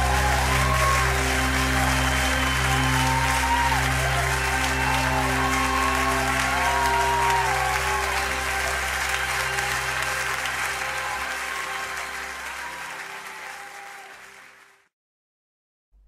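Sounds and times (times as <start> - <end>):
held chord of worship song: 0.0 - 13.2
audience applause: 0.0 - 14.9.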